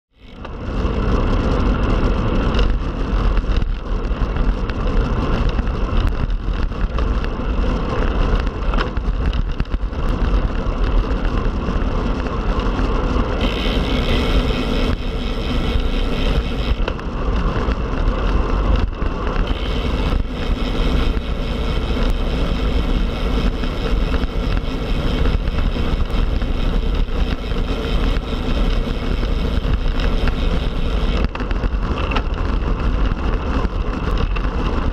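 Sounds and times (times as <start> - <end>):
bike tyre noise: 0.1 - 34.9
wind rushing over microphone: 0.2 - 34.9.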